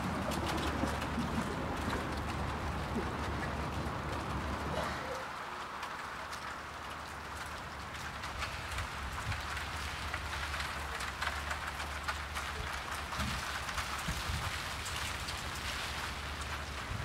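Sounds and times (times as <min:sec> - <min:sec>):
low steady rumble: 0:00.0 - 0:17.0
rain falling on street: 0:00.0 - 0:17.0.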